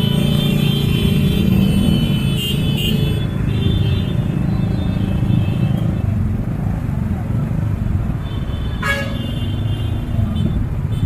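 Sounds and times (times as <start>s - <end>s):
car and motorcycle engines rumbling: 0.0s - 11.0s.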